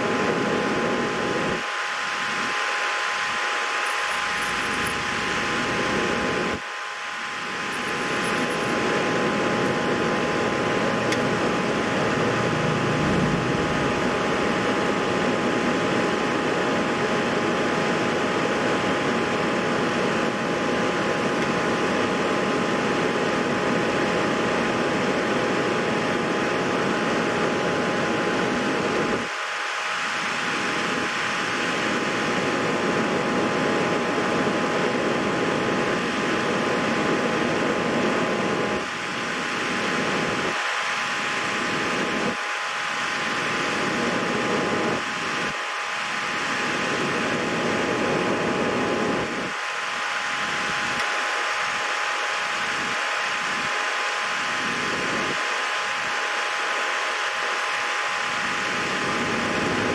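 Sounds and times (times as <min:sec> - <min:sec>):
fan hiss with whining tones: 0:00.0 - 0:59.9.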